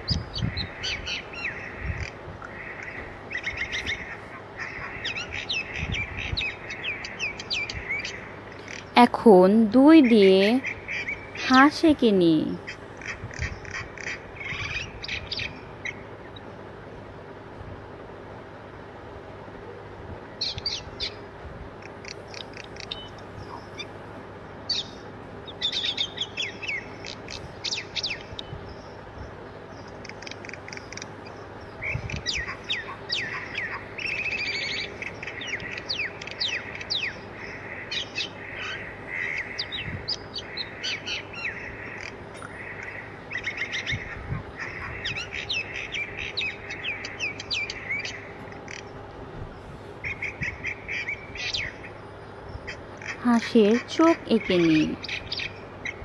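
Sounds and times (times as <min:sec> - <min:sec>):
birds chirping and twittering: 0:00.0 - 0:56.0
steady low hum: 0:00.0 - 0:56.0.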